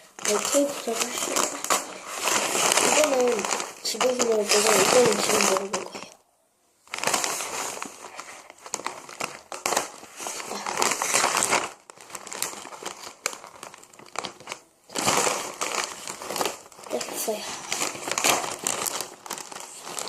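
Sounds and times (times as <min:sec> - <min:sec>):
plastic snack bag crinkling: 0:00.0 - 0:06.2, 0:06.9 - 0:20.0.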